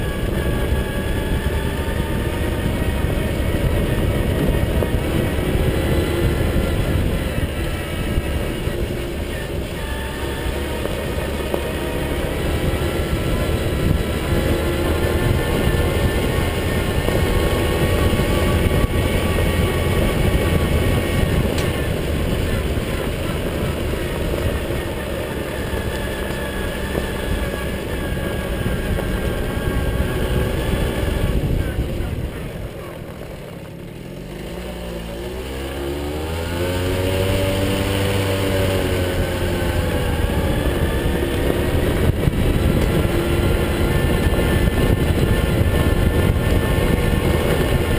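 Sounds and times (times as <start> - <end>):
moped engine running: 0.0 - 47.9.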